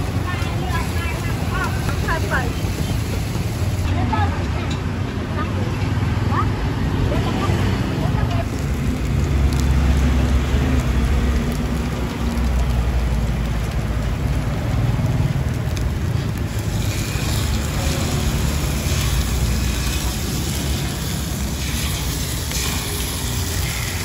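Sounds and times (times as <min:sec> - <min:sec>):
batter frying in oil: 0:00.0 - 0:03.9, 0:05.9 - 0:24.0
low rumble of street traffic: 0:00.0 - 0:24.0.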